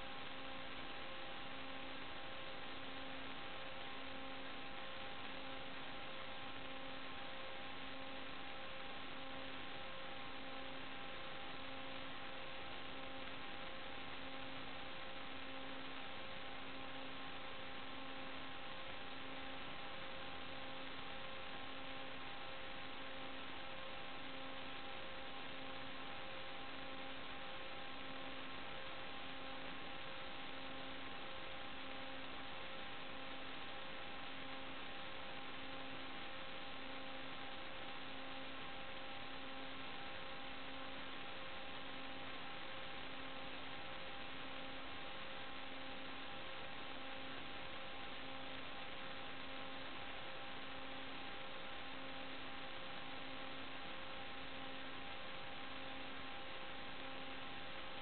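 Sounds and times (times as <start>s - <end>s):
constant hum tones: 0.0s - 58.0s.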